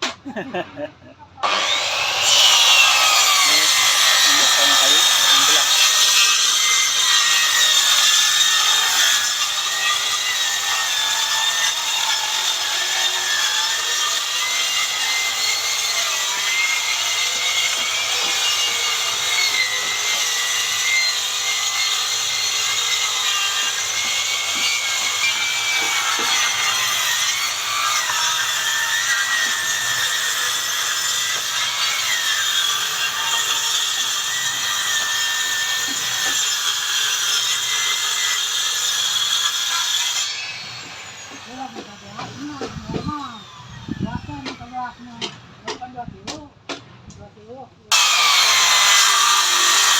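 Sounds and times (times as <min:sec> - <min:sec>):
circular saw cutting wood: 0:01.4 - 0:45.5, 0:47.9 - 0:49.9.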